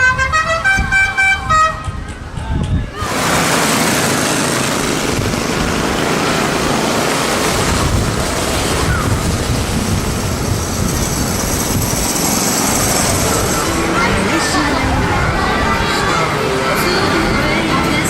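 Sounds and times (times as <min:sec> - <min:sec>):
vehicle running close by: 0:02.9 - 0:18.0.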